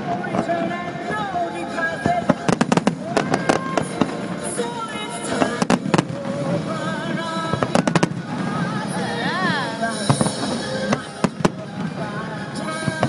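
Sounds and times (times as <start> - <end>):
fireworks bursting: 0.0 - 13.0
music playing: 0.0 - 13.0.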